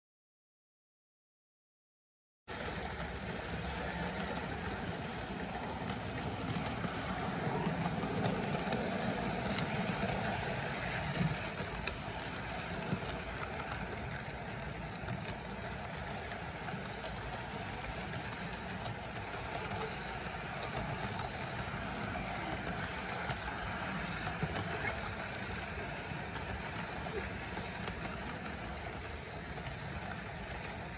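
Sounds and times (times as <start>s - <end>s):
model train rumbling: 2.5s - 30.9s.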